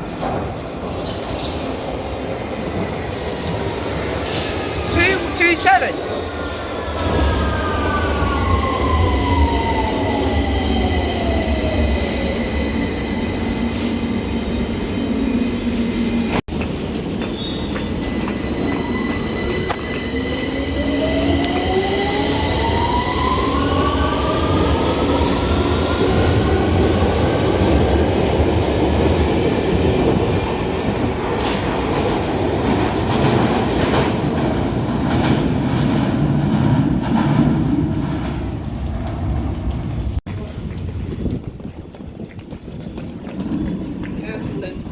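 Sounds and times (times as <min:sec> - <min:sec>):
train rumble and wheel noise: 0:00.0 - 0:44.9.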